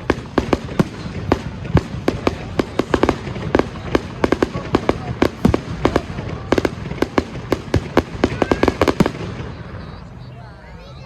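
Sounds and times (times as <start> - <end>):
fireworks bangs: 0.0 - 10.3
continuous low rumble: 0.0 - 11.0.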